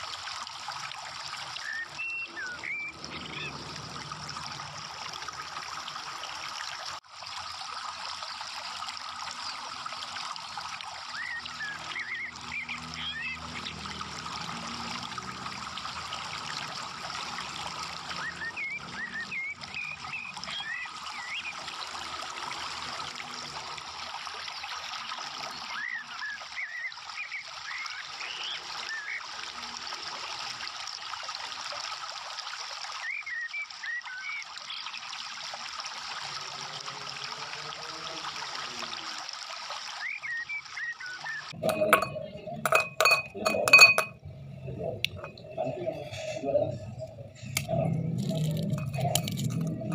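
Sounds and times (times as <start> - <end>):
trickling water: 0.0 - 49.9.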